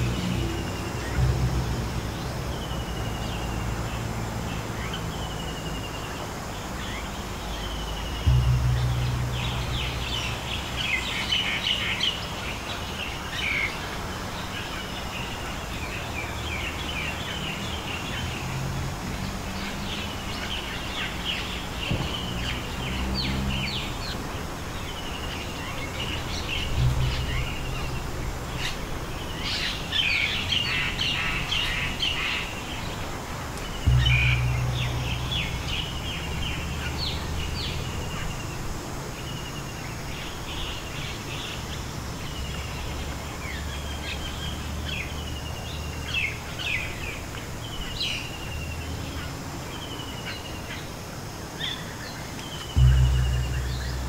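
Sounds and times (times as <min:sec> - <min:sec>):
low rumble: 0:00.0 - 0:49.8, 0:52.7 - 0:54.0
small birds chirping: 0:00.0 - 0:54.0.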